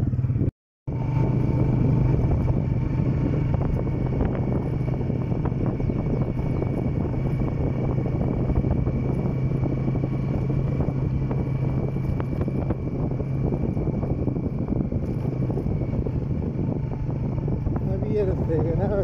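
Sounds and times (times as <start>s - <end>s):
motorcycle engine cruising: 0.0s - 19.0s
wind buffeting microphone: 0.0s - 19.0s.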